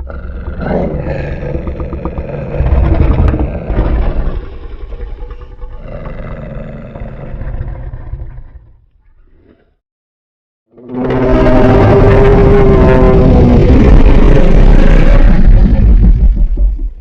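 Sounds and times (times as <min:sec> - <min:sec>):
long deep dinosaur roar: 0:00.0 - 0:09.7, 0:10.8 - 0:16.3.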